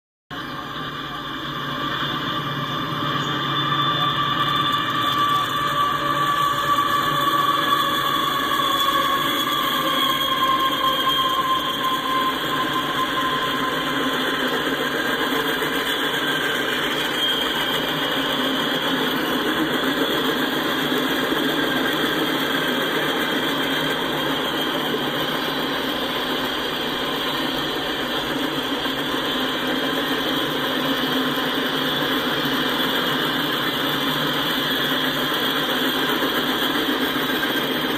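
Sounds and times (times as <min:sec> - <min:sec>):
diesel locomotive engine whine: 0:00.3 - 0:37.9.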